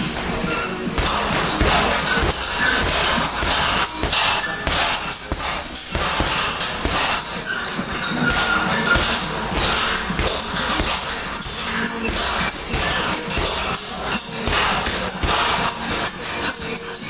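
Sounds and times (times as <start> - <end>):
boxing gloves punching a ball: 0.0 - 16.6
ball slapping back on cords: 0.0 - 17.0.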